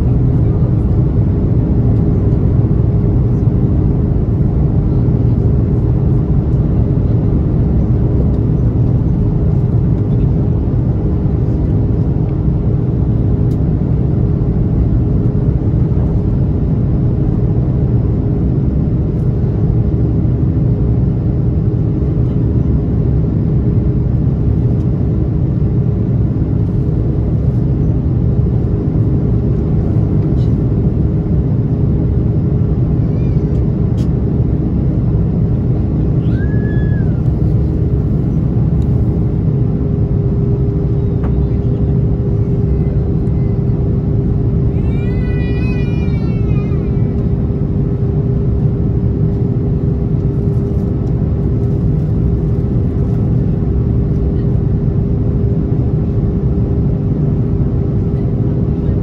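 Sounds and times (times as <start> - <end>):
jet engines deep rumble: 0.0 - 59.0
steady cabin hum: 0.0 - 59.0.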